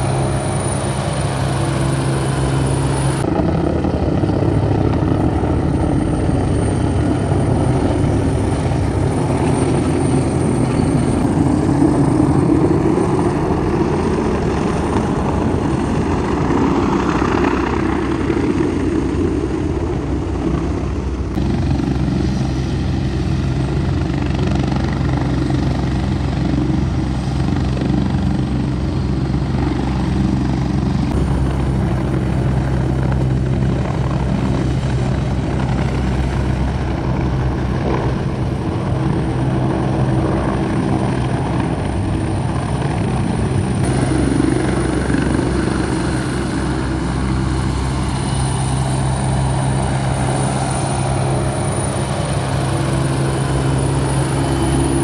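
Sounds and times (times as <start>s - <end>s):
helicopter rotor beat: 0.0s - 55.0s
high turbine whine: 0.0s - 55.0s.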